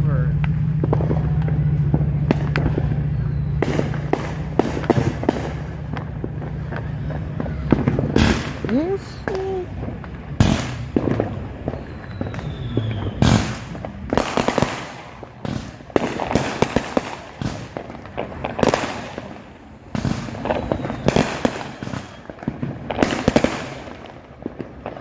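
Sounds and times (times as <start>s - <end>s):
fireworks bangs and crackling: 0.0s - 25.0s.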